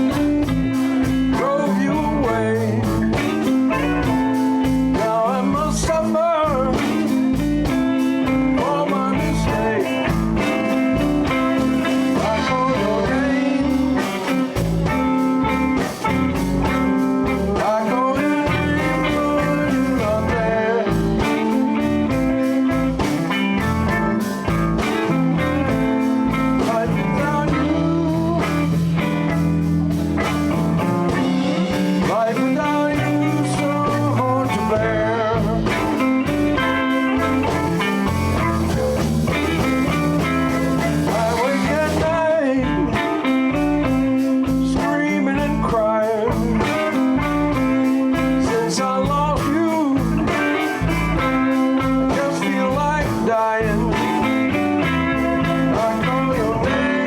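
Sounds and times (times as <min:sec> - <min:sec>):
electric guitar bent notes: 0:00.0 - 0:57.0
live blues band playing: 0:00.0 - 0:57.0.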